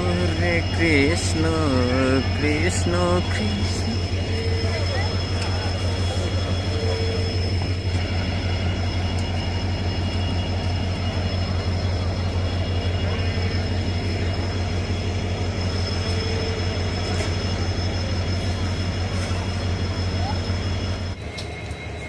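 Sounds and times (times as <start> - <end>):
high whines: 0.0 - 22.0
train rumble: 0.0 - 22.0.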